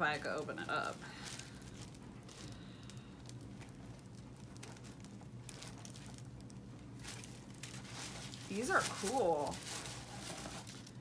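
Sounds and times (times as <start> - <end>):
faint low hum: 0.0 - 11.0
plastic packaging crinkling: 0.0 - 11.0.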